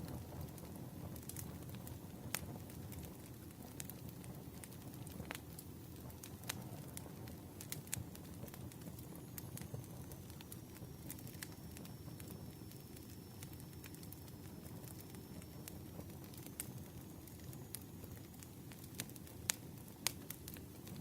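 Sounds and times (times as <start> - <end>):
campfire rumbling: 0.0 - 21.0
wood crackling and popping: 0.0 - 21.0.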